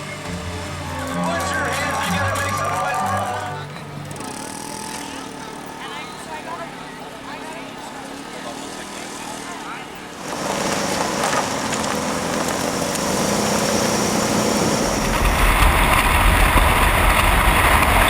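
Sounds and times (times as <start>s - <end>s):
race car engines running: 0.0s - 18.0s.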